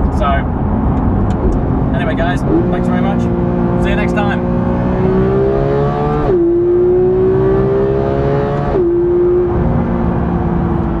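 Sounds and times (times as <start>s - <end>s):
car engine accelerating hard: 0.7s - 11.0s.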